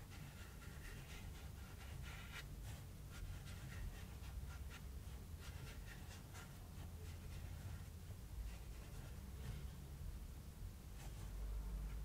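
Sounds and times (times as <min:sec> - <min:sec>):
paintbrush scraping on cardboard: 0:00.0 - 0:10.0.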